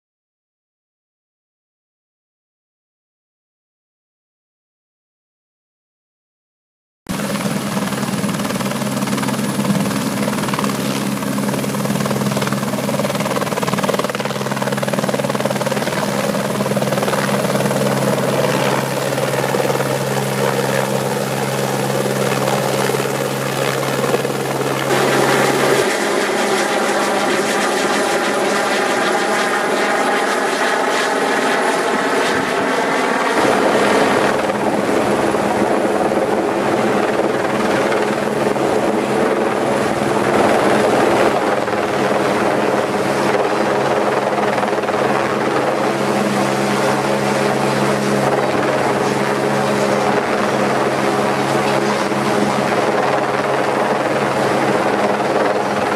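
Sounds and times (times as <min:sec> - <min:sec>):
helicopter rotor running: 0:07.1 - 0:55.9.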